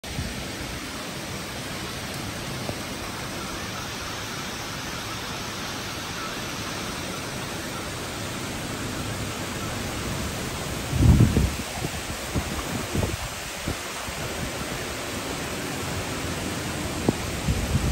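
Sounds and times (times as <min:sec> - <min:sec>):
heavy rain hiss: 0:00.0 - 0:17.9.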